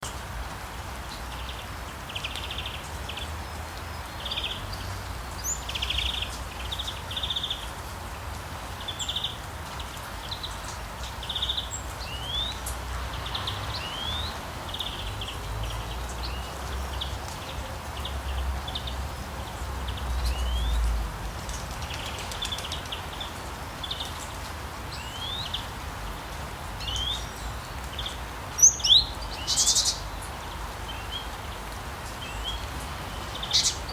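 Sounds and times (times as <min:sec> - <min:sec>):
steady rain: 0:00.0 - 0:33.9
small birds chirping: 0:01.1 - 0:07.8, 0:08.7 - 0:33.9.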